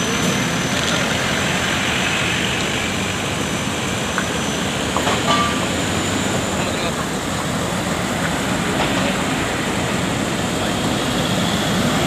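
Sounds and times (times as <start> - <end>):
diesel truck engines running: 0.0 - 12.0.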